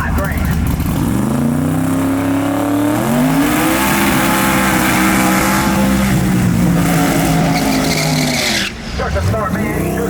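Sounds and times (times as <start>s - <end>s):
race car engines at full throttle: 0.0s - 10.0s.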